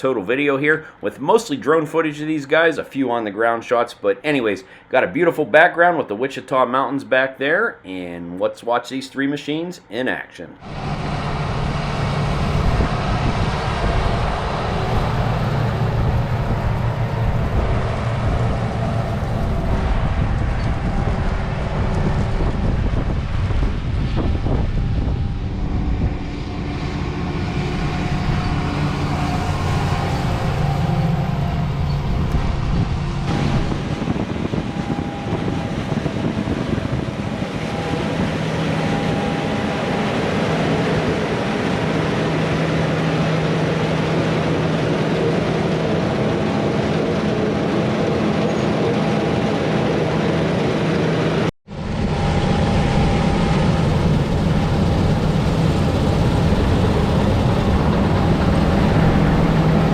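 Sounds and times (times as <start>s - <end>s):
combine harvester engines droning: 10.6s - 59.9s.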